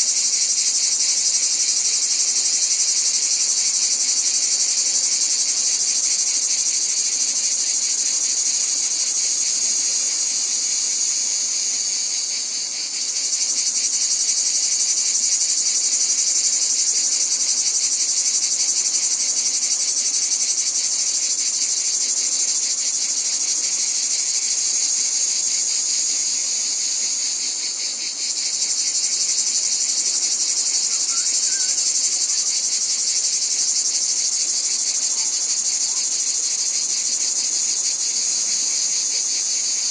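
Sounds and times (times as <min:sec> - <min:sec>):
insects trilling shrilly: 0:00.0 - 0:39.9.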